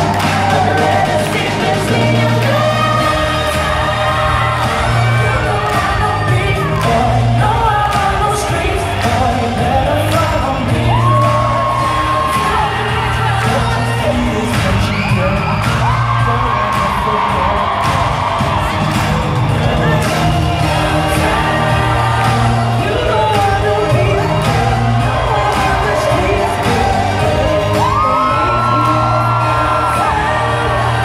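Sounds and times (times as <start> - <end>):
live pop music with singing: 0.0 - 31.0.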